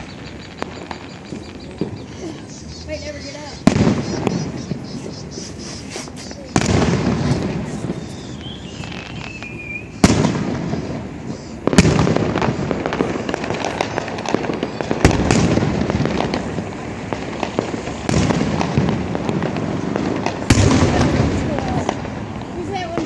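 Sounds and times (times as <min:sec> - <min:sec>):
fireworks booming bursts: 0:00.0 - 0:23.0
fireworks crackling tail: 0:00.0 - 0:23.0.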